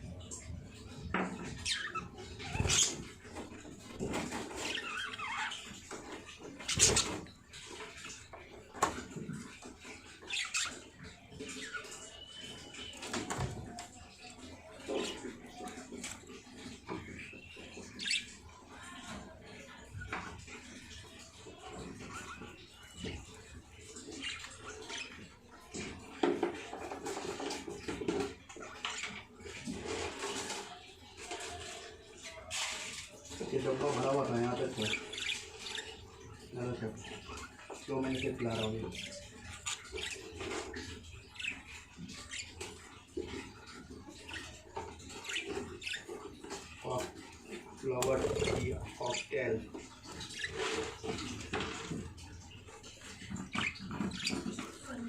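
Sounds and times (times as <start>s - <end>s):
baby birds chirping: 0.1s - 55.0s.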